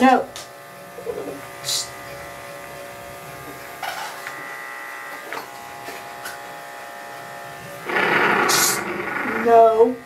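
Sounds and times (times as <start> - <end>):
electric clippers buzzing: 0.0 - 10.0.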